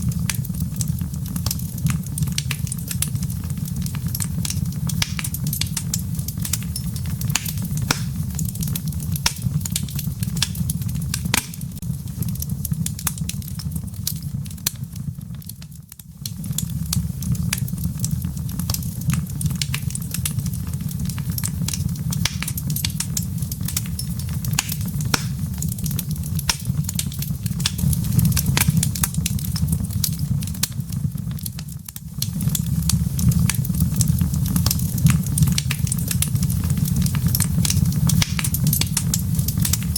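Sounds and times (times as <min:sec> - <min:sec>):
burning wood popping and snapping: 0:00.0 - 0:39.9
low rumble of flames: 0:00.0 - 0:39.9.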